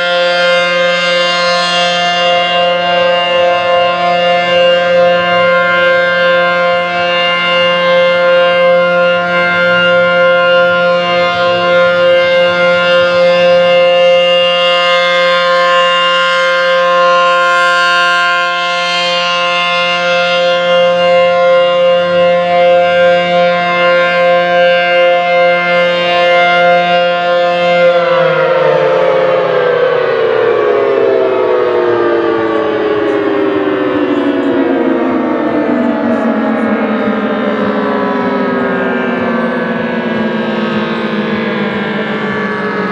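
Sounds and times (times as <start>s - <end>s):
civil defense siren: 0.0s - 42.9s.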